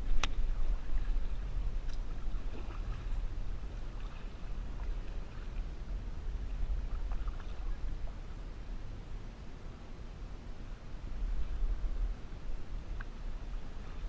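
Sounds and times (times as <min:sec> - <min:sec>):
water lapping against hull: 0:00.0 - 0:14.0
wind rumble on microphone: 0:00.0 - 0:14.0.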